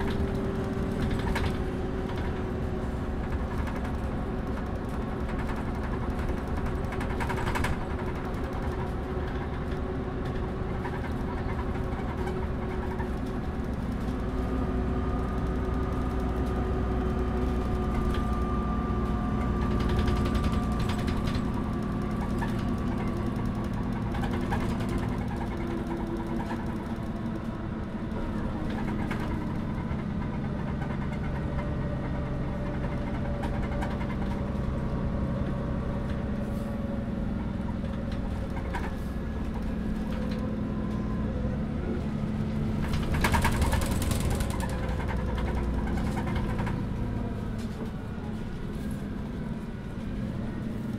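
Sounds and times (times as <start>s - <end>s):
bus body rattling and clicking: 0.0s - 50.9s
bus diesel engine running: 0.0s - 50.9s.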